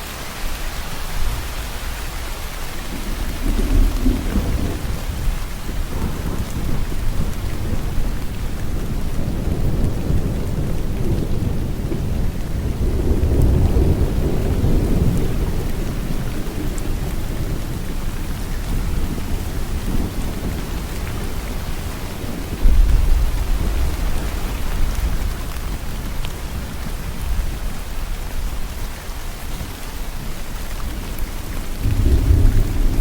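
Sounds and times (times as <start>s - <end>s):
heavy rain falling: 0.0s - 33.0s
thunder rumbling: 2.8s - 28.8s, 30.8s - 33.0s.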